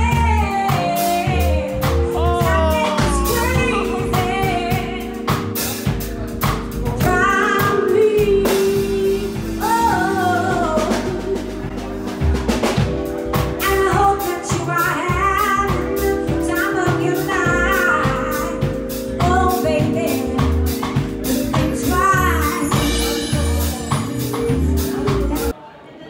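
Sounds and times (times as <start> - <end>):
person singing: 0.0 - 12.8, 13.6 - 25.5
drum kit hits: 0.0 - 25.5
keyboard chords: 0.0 - 25.6.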